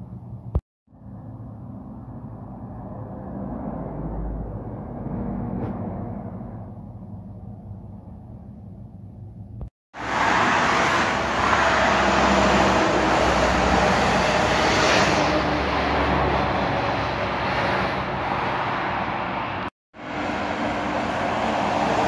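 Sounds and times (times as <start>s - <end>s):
vehicle passing close by: 0.9s - 8.2s, 10.0s - 22.0s.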